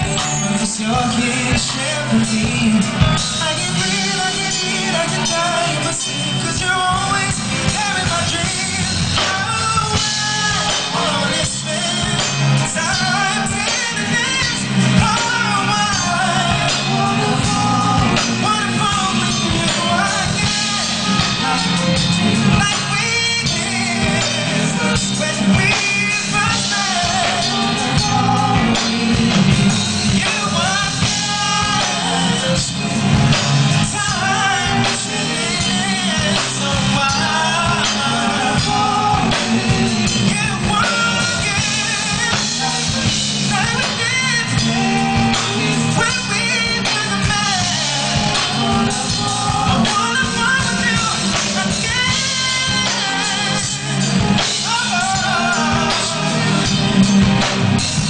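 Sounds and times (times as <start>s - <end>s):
bass guitar: 0.0s - 58.0s
drums: 0.0s - 58.0s
electric guitar: 0.0s - 58.0s
man singing a soul ballad: 0.0s - 58.0s.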